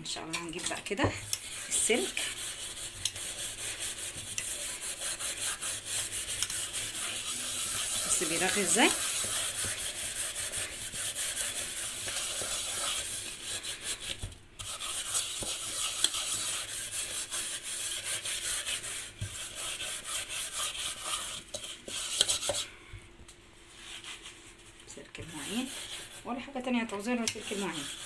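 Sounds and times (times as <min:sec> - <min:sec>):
steel wool scrubbing metal pot: 0:00.0 - 0:22.8, 0:23.8 - 0:28.0.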